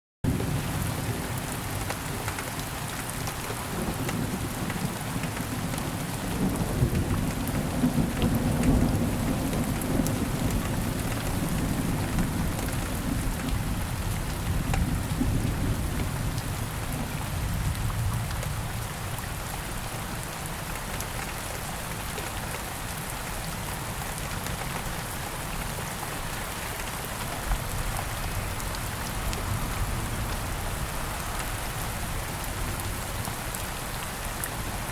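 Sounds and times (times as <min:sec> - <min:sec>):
rain pattering: 0:00.3 - 0:34.9.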